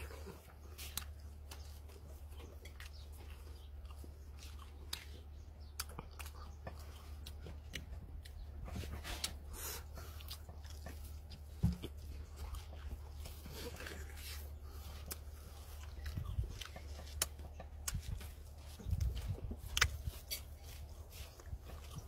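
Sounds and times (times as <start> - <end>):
chewing and biting: 0.0 - 22.0
steady low hum: 0.0 - 22.0.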